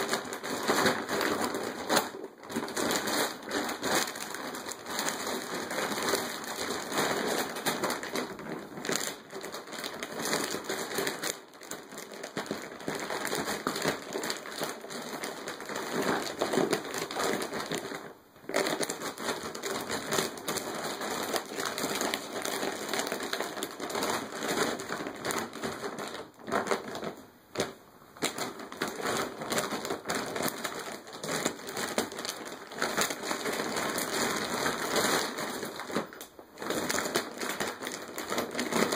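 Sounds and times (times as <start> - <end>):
plastic bag crinkling: 0.0 - 38.9.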